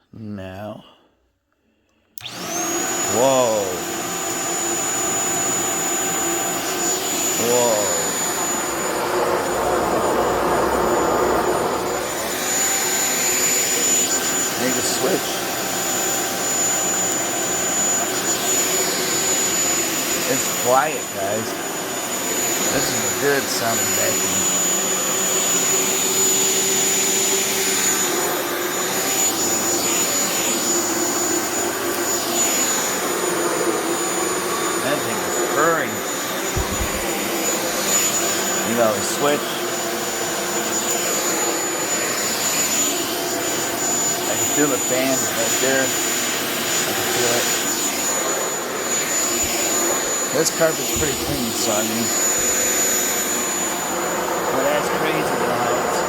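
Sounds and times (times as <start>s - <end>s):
stick vacuum running: 2.2s - 56.0s.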